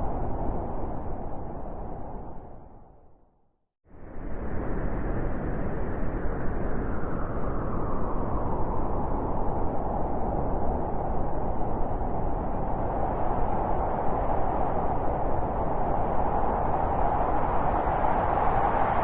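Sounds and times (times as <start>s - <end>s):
blizzard wind blowing: 0.0s - 3.2s, 3.9s - 19.0s.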